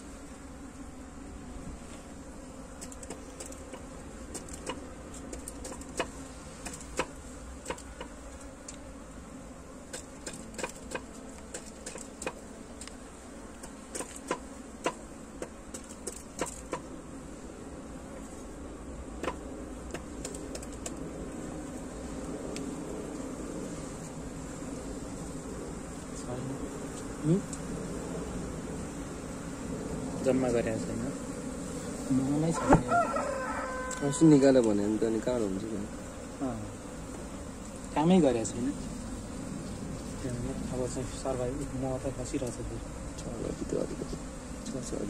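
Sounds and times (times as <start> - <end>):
honeybee colony buzzing: 0.0 - 45.0.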